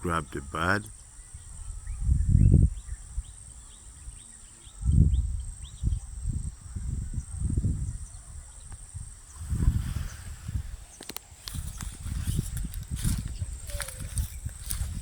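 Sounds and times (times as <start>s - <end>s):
high insect whine: 0.0s - 15.0s
wind rumbling on microphone: 0.0s - 15.0s.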